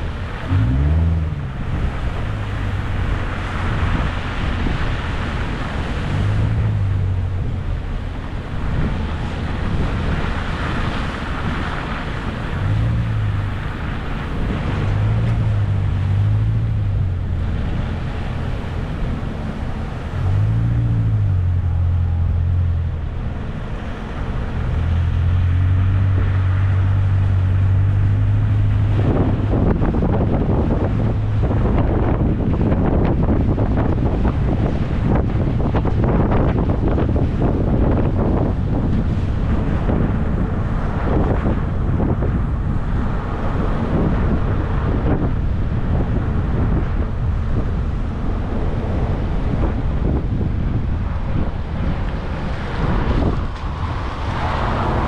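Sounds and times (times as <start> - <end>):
vehicle engine droning: 0.0 - 55.0
wind buffeting microphone: 0.0 - 55.0.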